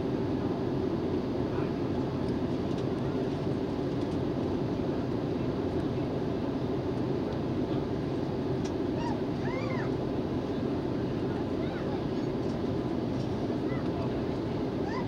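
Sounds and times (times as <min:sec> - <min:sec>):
airliner cabin engine rush: 0:00.0 - 0:15.0.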